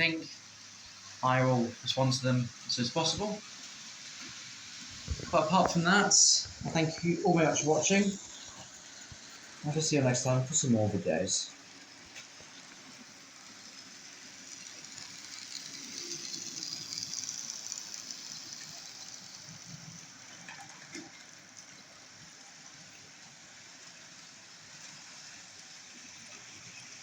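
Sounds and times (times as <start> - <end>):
model train running on track: 0.0 - 27.0.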